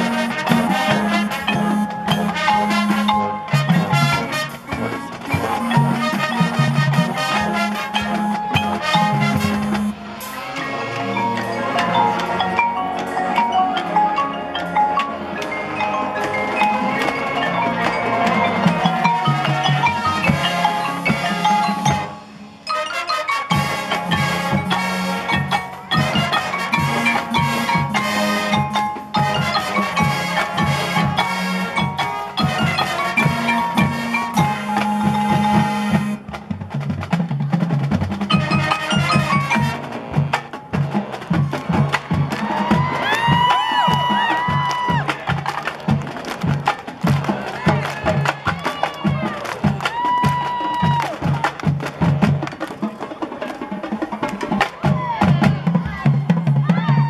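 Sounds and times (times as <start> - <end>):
accented percussion hits: 0.0 - 56.9
marching band playing: 0.0 - 57.0
marimba and xylophone: 0.0 - 57.0.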